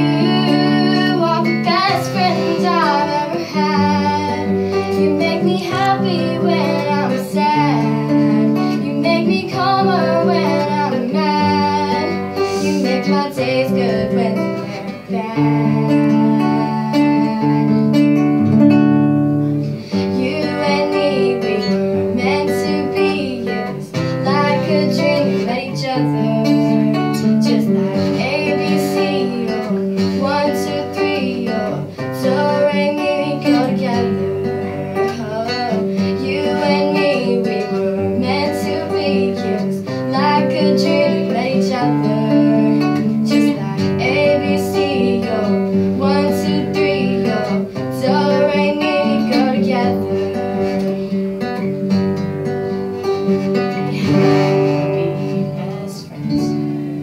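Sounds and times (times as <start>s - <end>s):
young woman singing: 0.0s - 52.3s, 53.0s - 57.0s
strummed nylon-string guitar: 0.0s - 57.0s.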